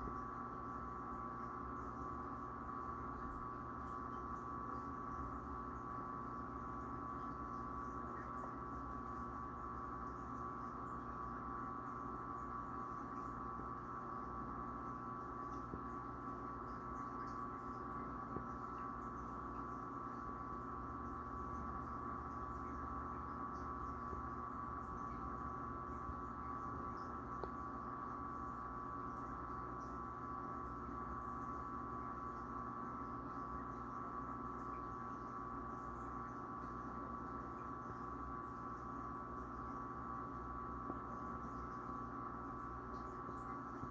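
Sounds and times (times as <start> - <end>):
aquarium equipment humming: 0.0 - 43.9.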